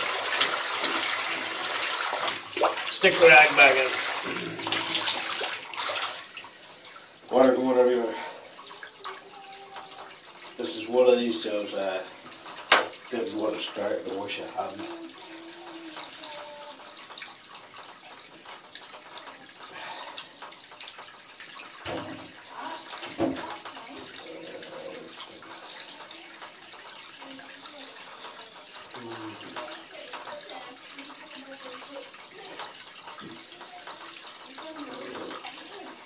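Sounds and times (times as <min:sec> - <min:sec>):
water spraying from a bath tap: 0:00.0 - 0:36.0.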